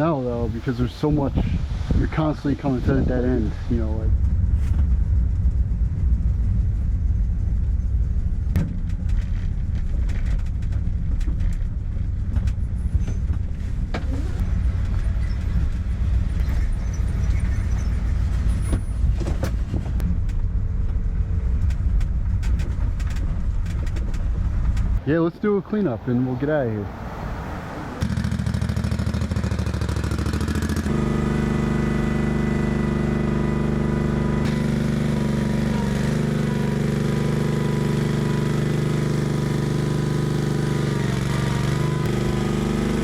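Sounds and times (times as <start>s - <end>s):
vehicle engine running: 0.4s - 25.0s, 28.0s - 43.0s.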